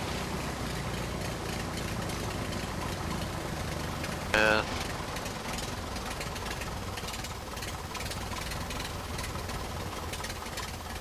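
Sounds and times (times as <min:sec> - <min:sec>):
aircraft engine idling: 0:00.3 - 0:11.0.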